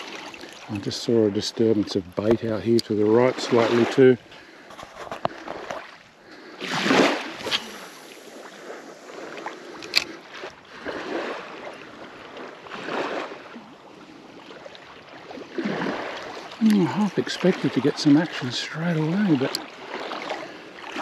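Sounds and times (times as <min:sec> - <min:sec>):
shallow seawater sloshing: 0:00.0 - 0:21.0.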